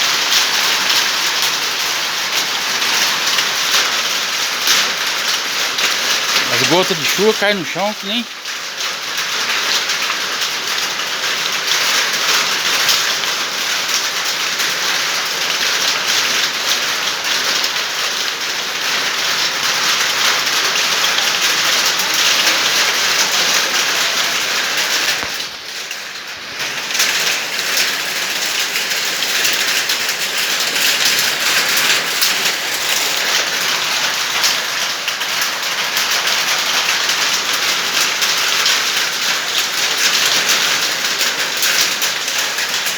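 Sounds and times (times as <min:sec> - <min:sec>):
rain falling on ground: 0:00.0 - 0:42.9.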